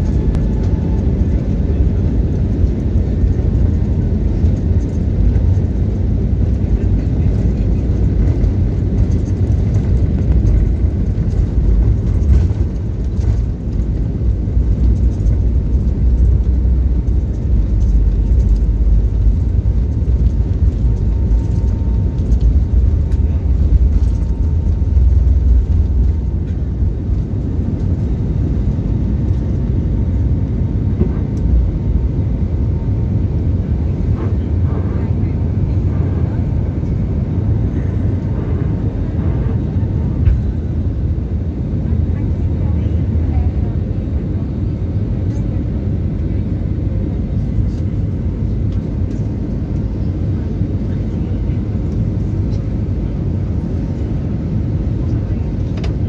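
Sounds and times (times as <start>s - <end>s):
airliner engines rumbling: 0.0s - 56.0s.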